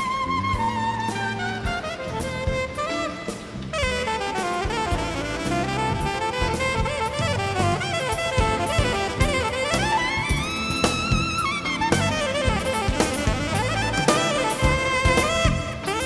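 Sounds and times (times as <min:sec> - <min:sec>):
bass: 0:00.0 - 0:16.0
drums: 0:00.0 - 0:16.0
saxophone melody: 0:00.0 - 0:16.0.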